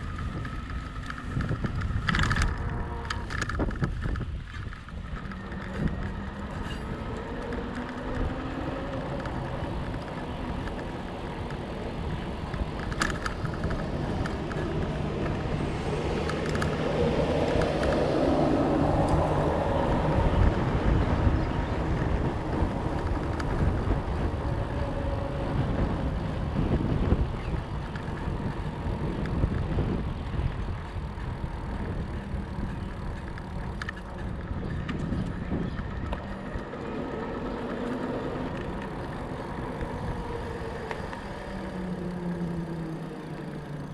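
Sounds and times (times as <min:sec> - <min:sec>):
bike tyres rolling rumble: 0:00.0 - 0:43.9.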